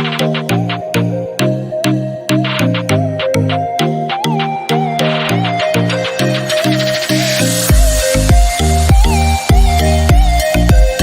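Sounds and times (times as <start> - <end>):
bass and synth melody: 0.0 - 11.0
clicking percussion: 0.0 - 11.0.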